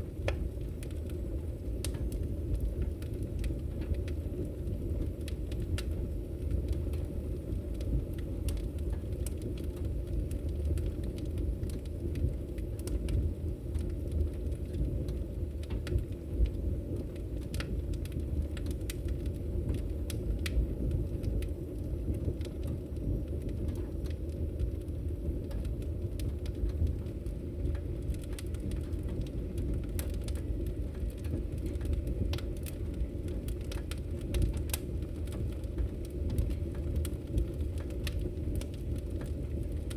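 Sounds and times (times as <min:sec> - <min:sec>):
fire crackling and popping: 0:00.0 - 0:39.9
loud fire crack: 0:00.0 - 0:39.9.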